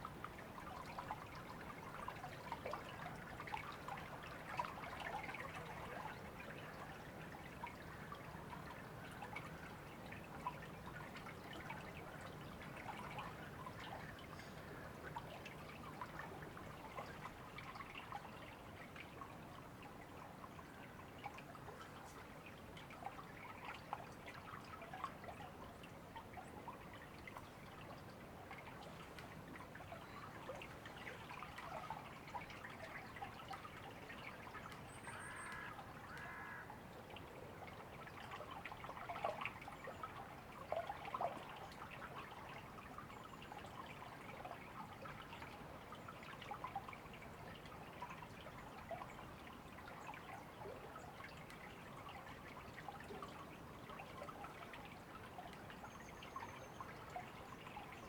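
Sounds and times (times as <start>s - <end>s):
river water trickling and babbling: 0.0s - 58.0s.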